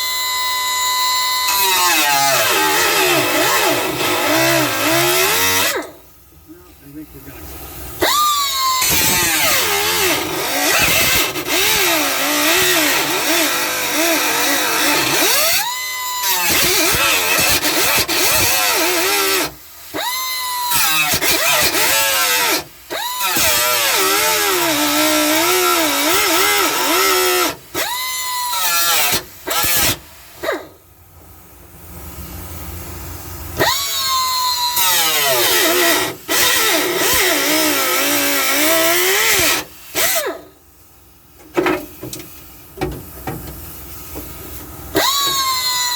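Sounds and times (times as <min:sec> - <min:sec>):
cut-off wheel grinding metal: 0:00.0 - 0:06.1, 0:08.0 - 0:30.8, 0:33.6 - 0:40.6, 0:41.4 - 0:45.9.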